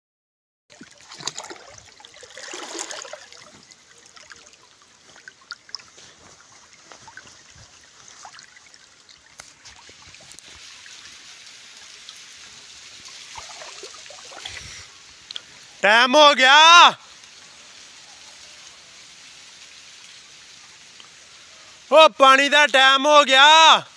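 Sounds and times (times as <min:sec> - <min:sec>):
water flowing and trickling: 0:00.7 - 0:21.9.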